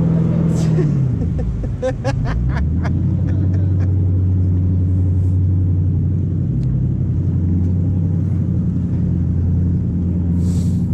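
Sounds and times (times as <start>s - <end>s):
boat engine low drone: 0.0s - 10.9s.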